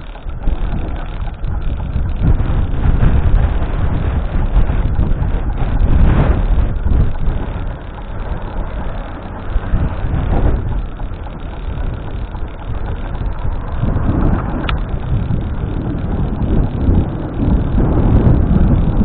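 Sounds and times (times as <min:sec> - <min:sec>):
road traffic noise: 0:00.0 - 0:19.0
wind buffeting microphone: 0:00.0 - 0:19.0.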